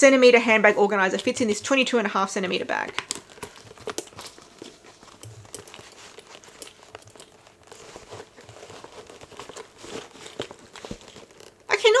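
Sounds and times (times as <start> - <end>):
rustling and scraping in handbag: 1.1 - 12.0.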